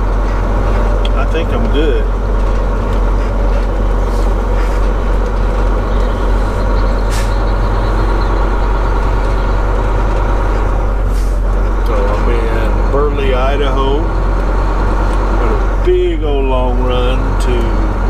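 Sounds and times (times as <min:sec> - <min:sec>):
diesel engine drone: 0:00.0 - 0:18.0
road noise: 0:00.0 - 0:18.0.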